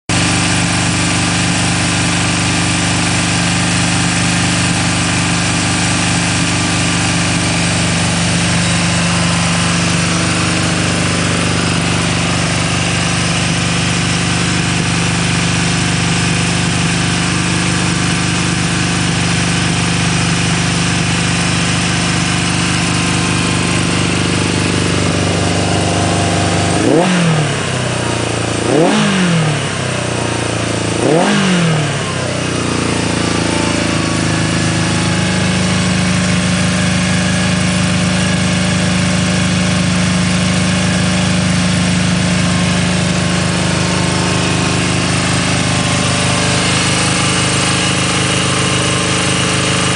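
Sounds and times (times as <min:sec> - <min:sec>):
engine revving: 0:00.1 - 0:49.9
motorcycle engine idling fast: 0:00.1 - 0:49.9.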